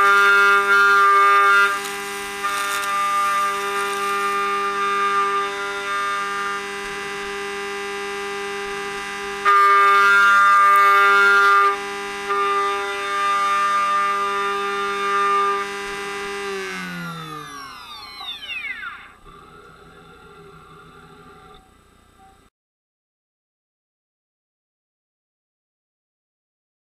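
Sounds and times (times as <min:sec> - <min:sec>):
spindle motor whining: 0:00.0 - 0:07.9, 0:08.7 - 0:22.5.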